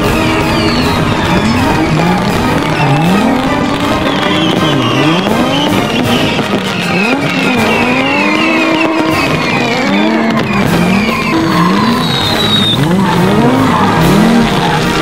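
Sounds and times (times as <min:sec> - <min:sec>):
fireworks crackling and popping: 0:00.0 - 0:15.0.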